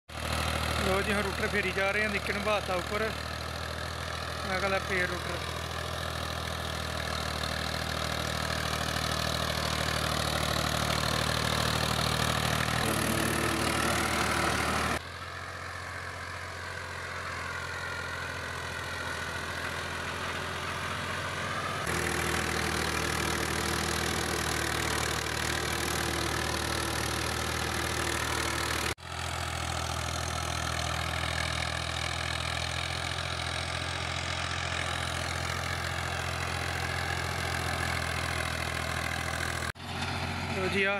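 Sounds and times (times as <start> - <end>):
tractor diesel engine running: 0.1 - 40.9.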